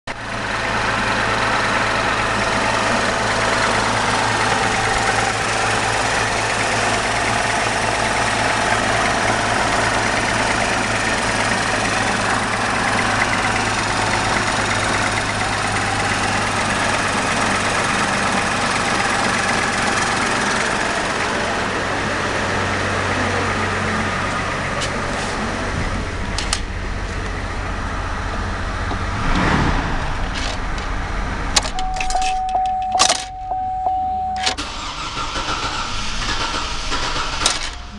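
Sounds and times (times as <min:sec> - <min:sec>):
vehicle engine idling: 0:00.1 - 0:37.9.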